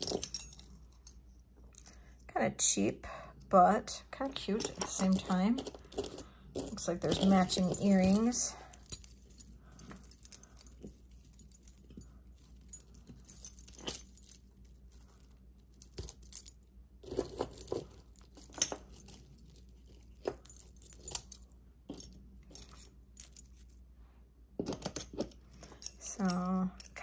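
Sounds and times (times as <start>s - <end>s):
metal jewelry clinking: 0.0s - 2.2s, 4.2s - 23.9s, 24.6s - 27.0s.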